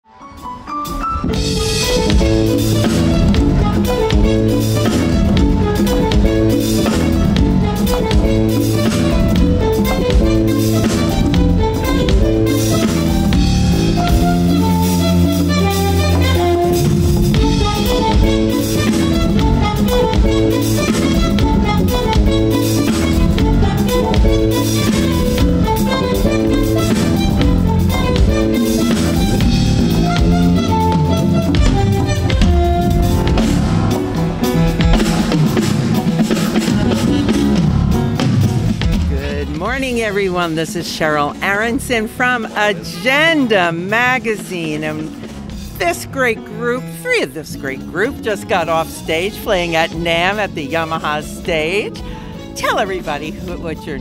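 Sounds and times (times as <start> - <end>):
jazz band playing: 0.2 - 54.0.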